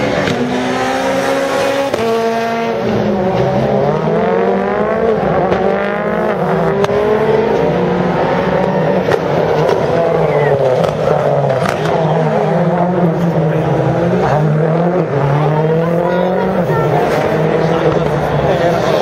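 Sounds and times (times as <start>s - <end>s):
rally car engine at full throttle: 0.0s - 19.0s.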